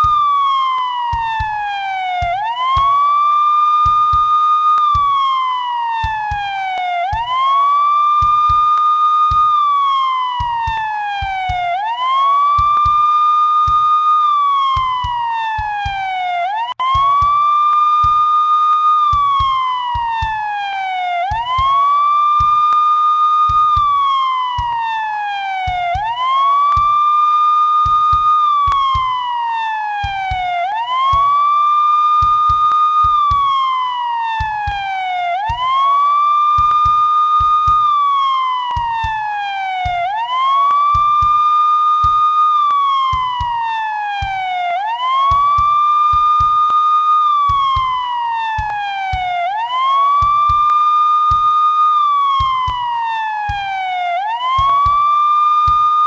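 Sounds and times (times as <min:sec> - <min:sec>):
police siren wailing: 0:00.0 - 0:56.0.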